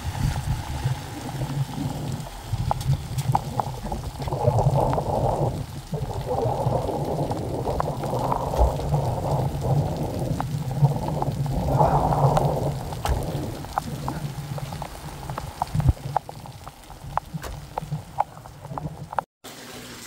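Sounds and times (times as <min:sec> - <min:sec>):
rain falling: 0:00.0 - 0:20.0
raindrops ticking on microphone: 0:00.0 - 0:20.0.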